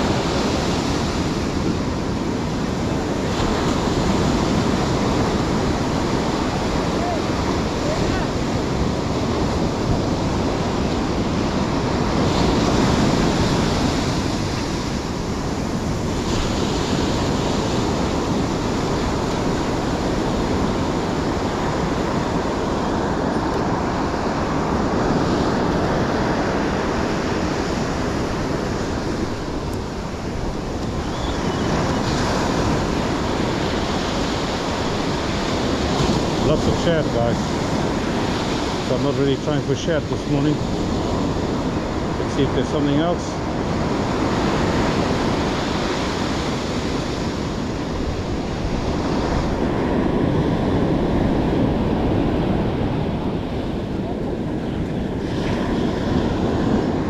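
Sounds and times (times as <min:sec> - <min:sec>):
surf washing up a beach: 0:00.0 - 0:57.0
wind buffeting microphone: 0:00.0 - 0:57.0.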